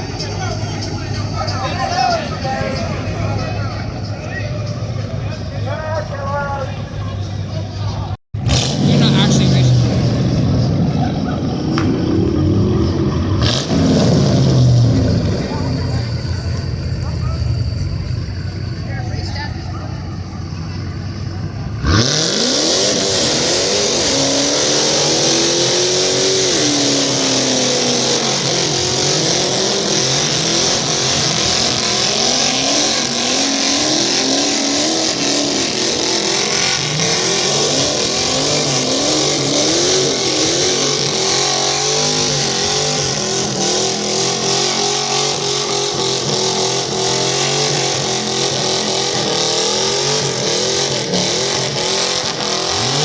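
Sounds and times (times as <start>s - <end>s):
spinning tyres hissing: 0.0s - 53.0s
engine revving hard: 8.3s - 53.0s.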